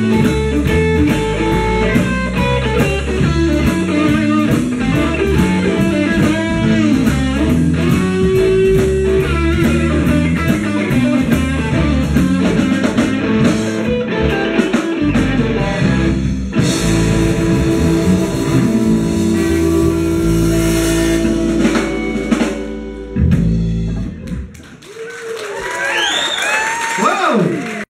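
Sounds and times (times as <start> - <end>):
live blues band playing: 0.0 - 25.0.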